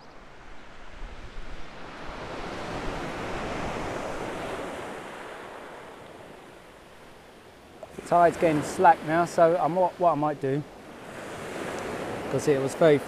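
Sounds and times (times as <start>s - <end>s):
surf on shingle beach: 0.0s - 13.0s.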